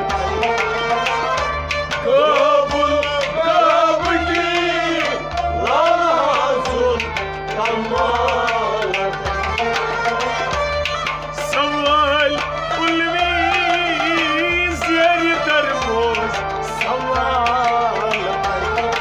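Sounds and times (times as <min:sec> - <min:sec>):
harmonium melody: 0:00.0 - 0:19.0
string instrument melody: 0:00.0 - 0:19.0.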